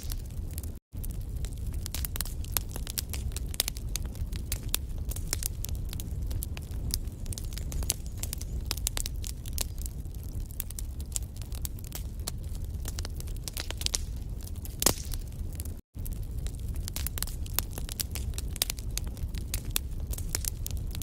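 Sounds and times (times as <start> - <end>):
logs crackling and popping: 0.0 - 21.0
low rumble of flame: 0.0 - 21.0.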